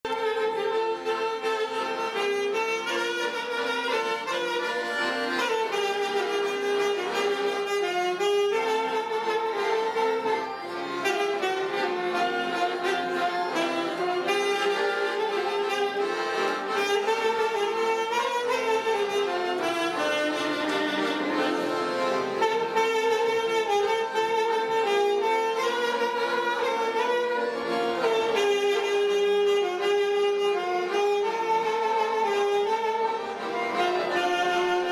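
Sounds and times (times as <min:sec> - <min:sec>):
piano accordions: 0:00.0 - 0:34.9
saxophone: 0:00.1 - 0:34.9.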